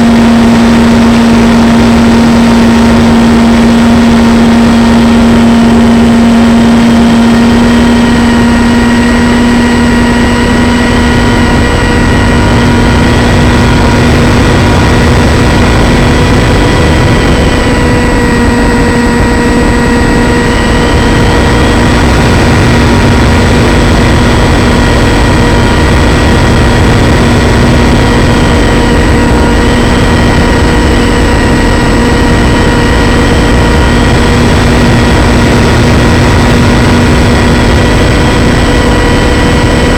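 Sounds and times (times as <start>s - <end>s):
model plane motor whine: 0.0s - 39.9s
wind rumble: 0.0s - 39.9s.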